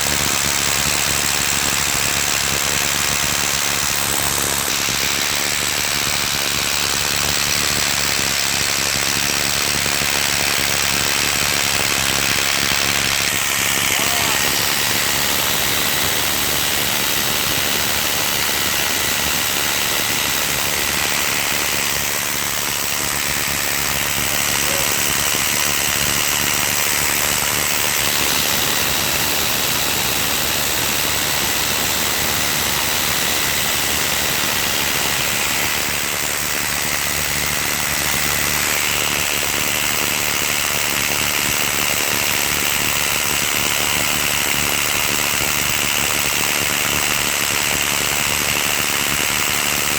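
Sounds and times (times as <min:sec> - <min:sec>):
hammer drill motor whining: 0:00.0 - 0:49.9.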